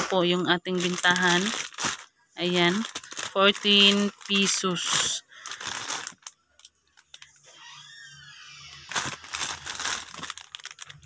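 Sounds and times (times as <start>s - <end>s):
plastic sachets crinkling: 0.0s - 7.5s, 8.5s - 11.0s.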